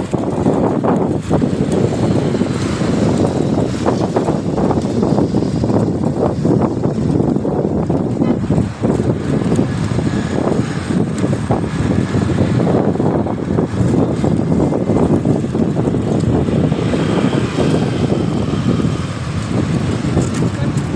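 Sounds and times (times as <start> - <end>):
road traffic: 0.0 - 20.9
skate wheels rolling on asphalt: 0.0 - 20.9
wind buffeting microphone: 0.0 - 20.9.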